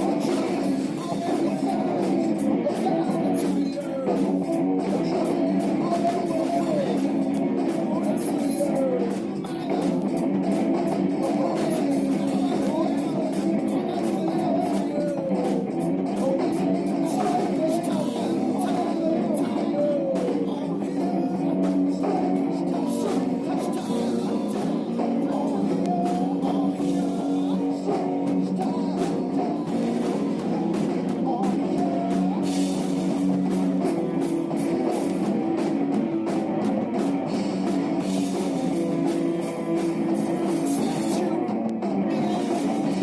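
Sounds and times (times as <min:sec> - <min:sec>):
drum kit beat: 0:00.0 - 0:43.0
electric guitar: 0:00.0 - 0:43.0.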